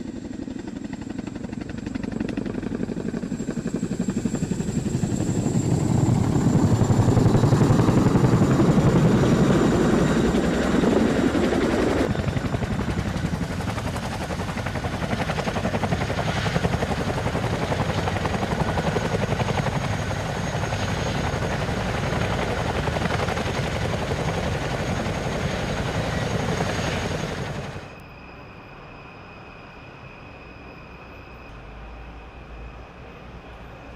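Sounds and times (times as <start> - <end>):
helicopter rotor beating: 0.0 - 28.0
turbine engine whine: 0.0 - 33.9.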